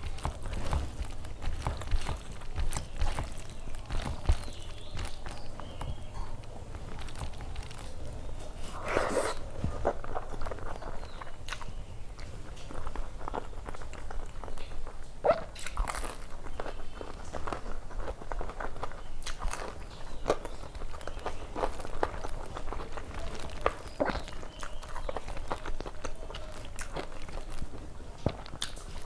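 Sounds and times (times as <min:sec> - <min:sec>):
crunchy bites: 0:00.0 - 0:29.0
person chewing and smacking: 0:00.0 - 0:29.0.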